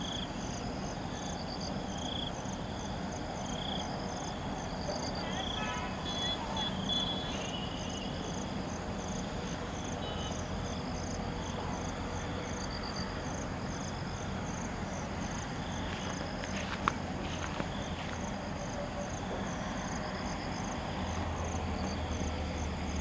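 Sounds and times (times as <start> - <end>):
cricket-like chirping: 0.0 - 23.0
high insect hum: 0.0 - 23.0.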